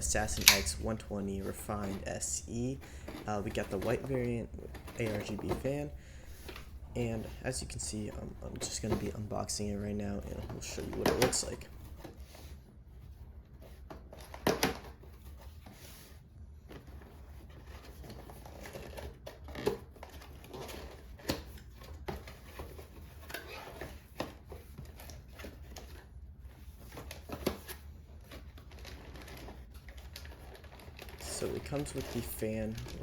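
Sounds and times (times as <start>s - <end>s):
cardboard packaging rustling: 0.0s - 33.0s.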